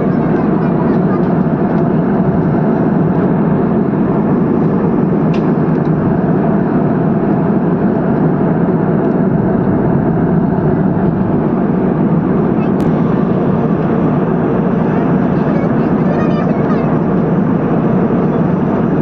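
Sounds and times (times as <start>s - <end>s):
airliner cabin engine noise: 0.0s - 19.0s.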